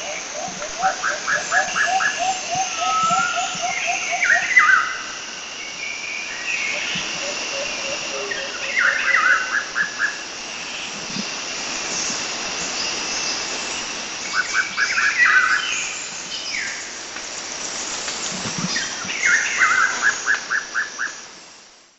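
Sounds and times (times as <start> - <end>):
steady background noise: 0.0 - 21.9.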